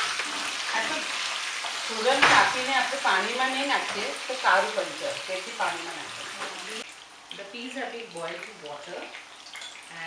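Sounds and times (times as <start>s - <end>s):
sweet potato sizzling in oil: 0.0s - 9.0s.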